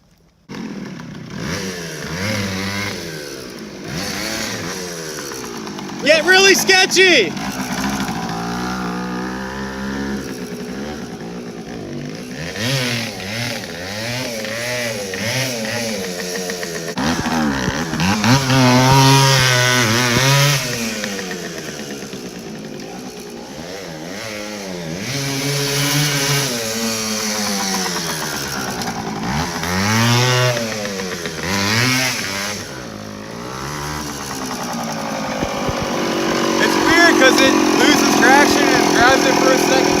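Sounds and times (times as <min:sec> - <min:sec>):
moped engine revving: 0:00.4 - 0:40.0.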